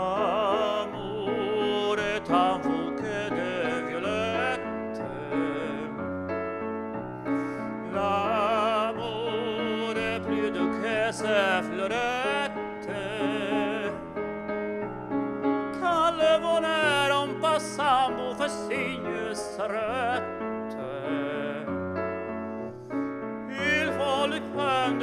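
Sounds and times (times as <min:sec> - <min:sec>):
man singing operatically: 0:00.0 - 0:06.1, 0:07.6 - 0:14.0, 0:15.8 - 0:21.9, 0:23.5 - 0:25.0
piano chords: 0:00.0 - 0:25.0.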